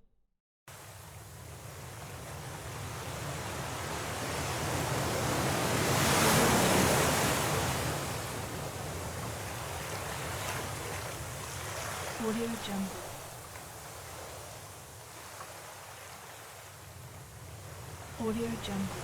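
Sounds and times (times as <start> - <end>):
rushing wash of waves: 0.7 - 19.0.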